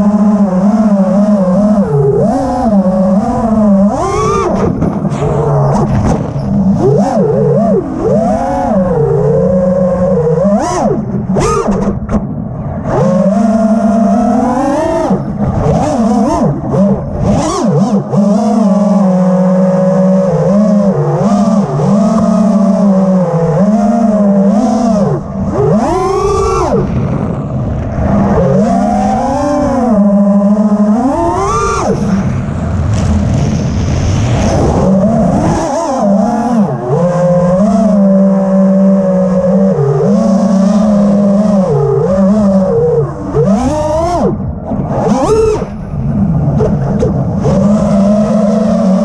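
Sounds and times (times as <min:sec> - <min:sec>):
quadcopter motors whining: 0:00.0 - 0:12.0, 0:12.9 - 0:49.0
wind noise on microphone: 0:00.0 - 0:49.0.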